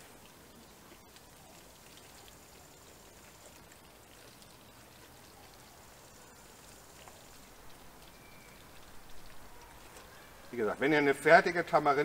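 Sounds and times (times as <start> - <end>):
bubbles pattering: 0.0 - 12.0
sauce simmering hiss: 0.0 - 12.0.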